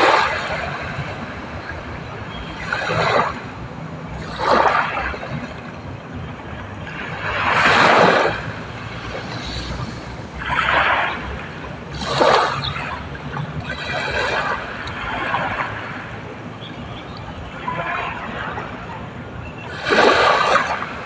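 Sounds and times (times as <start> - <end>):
small waves splashing on shore: 0.0 - 21.0.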